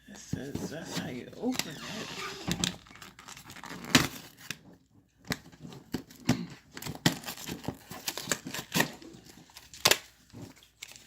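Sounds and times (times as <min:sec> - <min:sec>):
plastic packaging crackling: 0:00.6 - 0:11.0.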